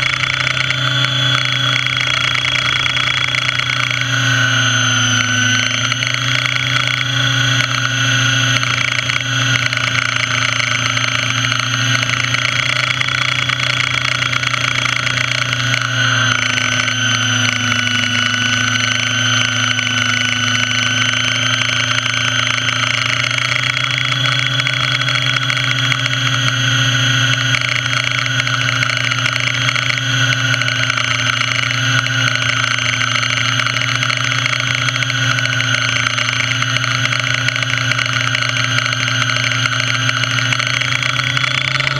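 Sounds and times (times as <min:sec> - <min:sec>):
model helicopter motor and rotor: 0:00.0 - 0:41.9.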